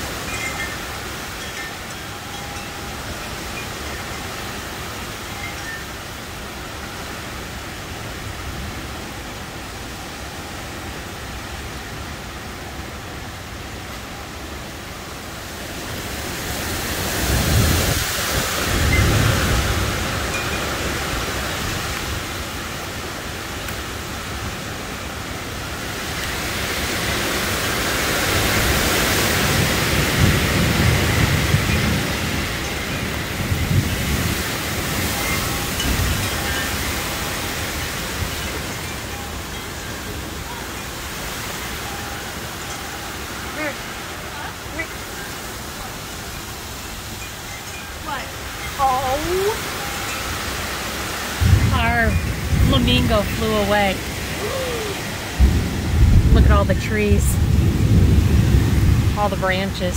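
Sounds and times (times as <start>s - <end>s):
heavy rain pouring: 0.0s - 59.9s
wind gusting through trees: 0.0s - 59.9s.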